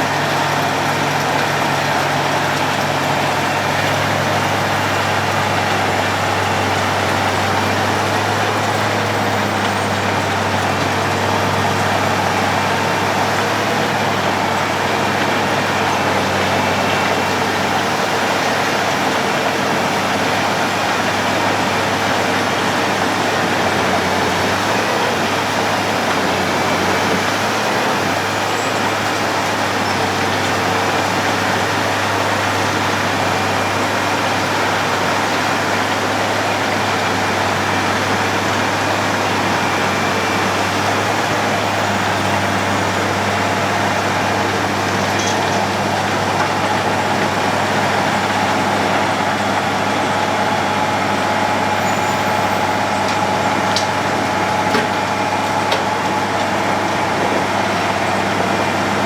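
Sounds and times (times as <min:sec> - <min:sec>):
road milling machine droning: 0:00.0 - 0:59.0.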